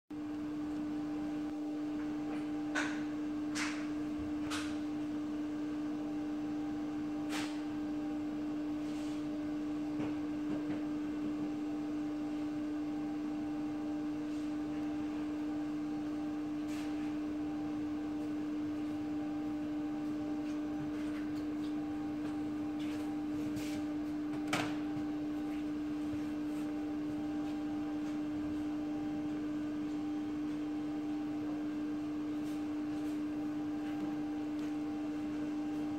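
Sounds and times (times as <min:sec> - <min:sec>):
electrical hum: 0:00.1 - 0:35.9.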